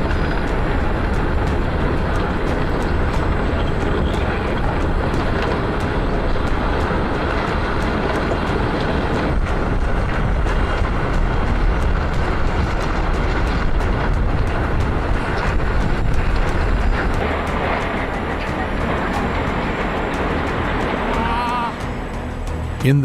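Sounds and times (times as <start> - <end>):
floodwater rushing roar: 0.0 - 23.0.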